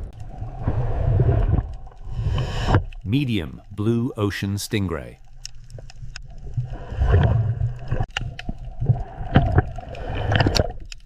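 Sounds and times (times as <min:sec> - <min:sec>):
water sloshing and gurgling: 0:00.0 - 0:03.1, 0:05.2 - 0:11.0.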